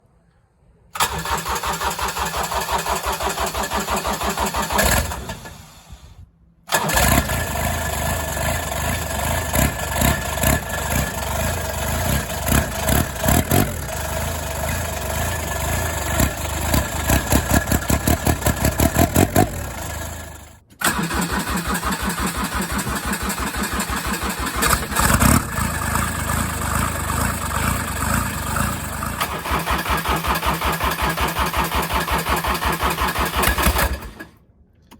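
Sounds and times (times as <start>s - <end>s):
diesel engine idling and revving: 1.0s - 34.3s.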